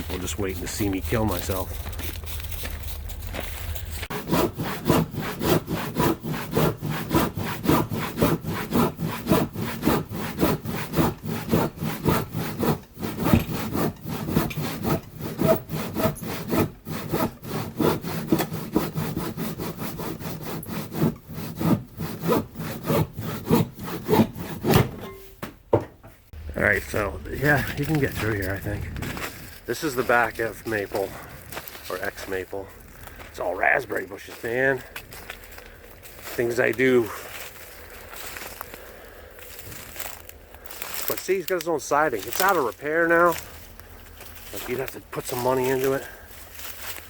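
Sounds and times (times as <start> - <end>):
scraping through dense brush: 0.0 - 17.2, 26.4 - 47.0.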